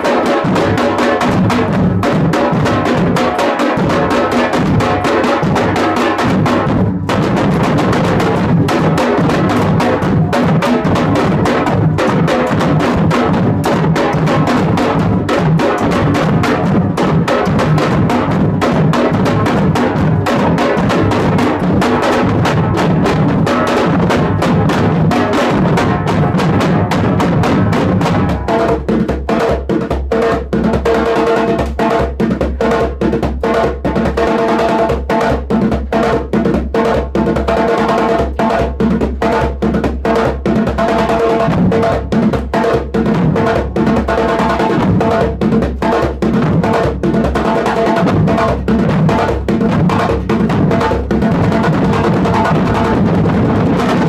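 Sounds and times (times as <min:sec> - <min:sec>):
drum ensemble playing: 0:00.0 - 0:54.0.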